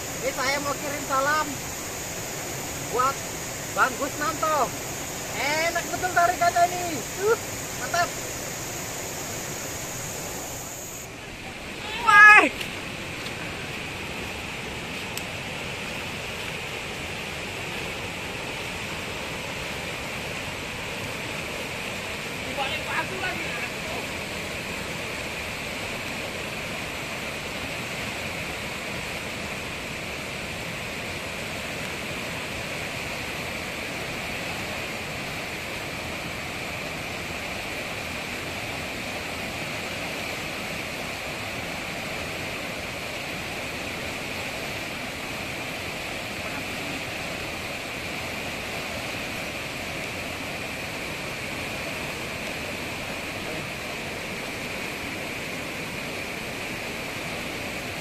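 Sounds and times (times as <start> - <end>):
river rapids rushing over boulders: 0.0 - 58.0.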